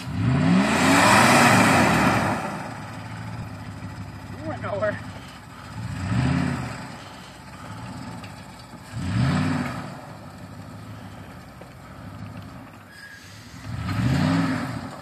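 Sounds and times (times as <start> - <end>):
pickup truck engine revving: 0.0 - 15.0.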